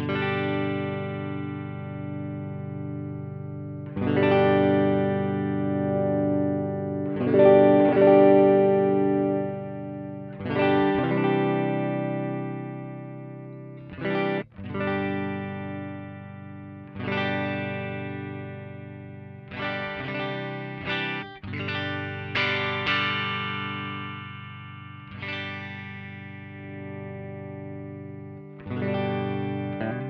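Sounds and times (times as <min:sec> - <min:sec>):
electric guitar strummed chords: 0:00.0 - 0:30.0.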